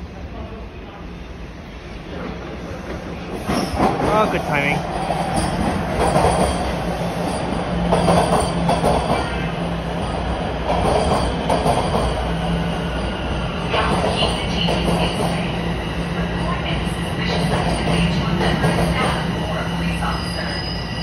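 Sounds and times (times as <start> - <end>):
subway train rumble and motor hum: 0.0 - 21.0.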